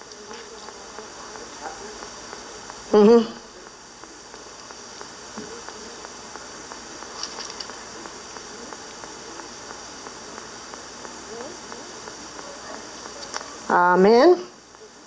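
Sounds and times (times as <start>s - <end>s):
cassette tape hiss: 0.0s - 15.0s
faint ticks and rustles: 0.0s - 15.0s.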